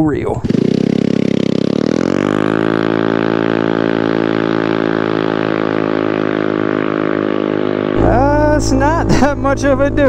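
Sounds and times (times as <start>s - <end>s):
motorcycle engine accelerating: 0.3s - 10.0s.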